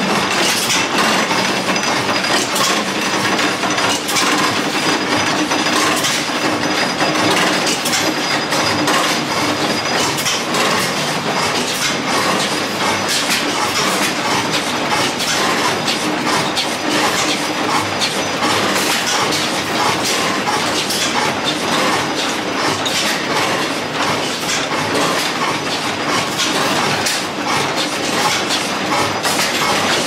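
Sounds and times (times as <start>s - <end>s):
stationary engines clattering: 0.0s - 30.0s.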